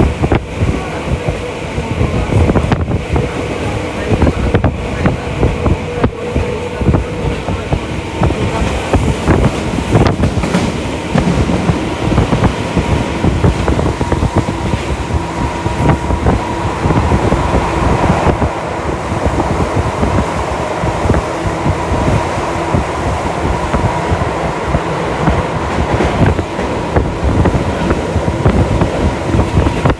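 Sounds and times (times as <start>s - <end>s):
train wheels rumbling on rail: 0.0s - 29.9s
train motor whine: 2.1s - 29.9s.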